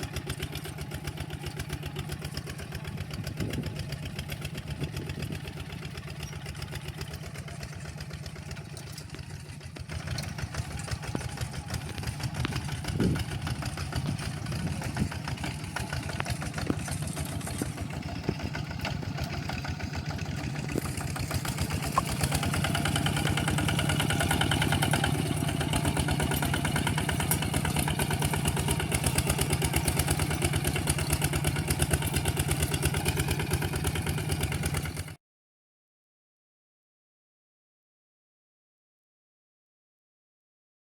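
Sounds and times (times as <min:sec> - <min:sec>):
tractor engine chugging: 0:00.0 - 0:35.2.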